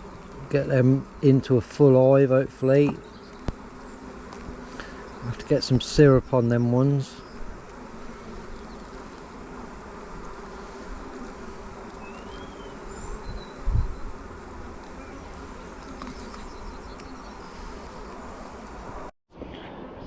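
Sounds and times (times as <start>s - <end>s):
honeybees buzzing: 0.0s - 19.1s.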